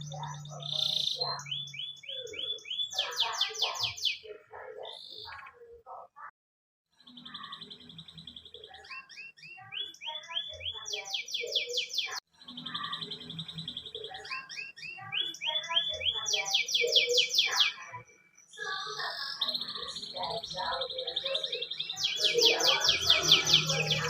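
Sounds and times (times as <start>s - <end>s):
canary singing: 0.0s - 6.0s, 7.0s - 24.0s.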